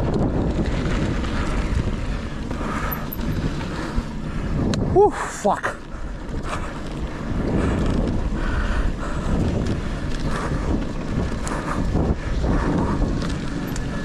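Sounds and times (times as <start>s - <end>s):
bike rumbling and rattling: 0.0s - 14.0s
wind rushing over microphone: 0.0s - 14.0s.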